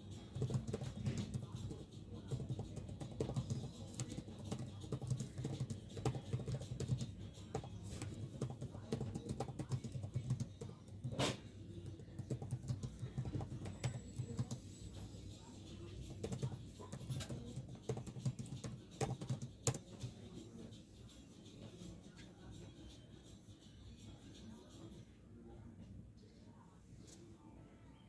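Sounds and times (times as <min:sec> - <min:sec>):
low uneven murmur: 0:00.0 - 0:28.0.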